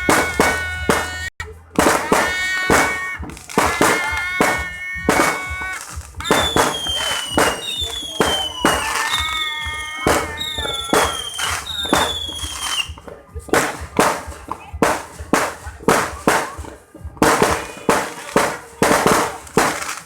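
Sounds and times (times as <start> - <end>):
fireworks bangs: 0.0 - 20.0
fireworks whistles falling: 0.0 - 20.0.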